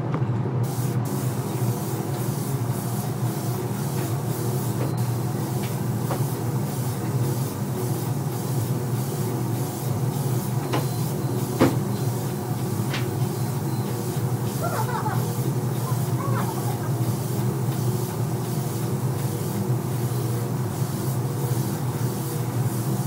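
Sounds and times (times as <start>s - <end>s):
shop machinery hum: 0.0s - 23.0s
compressed air hose hissing: 0.6s - 23.0s.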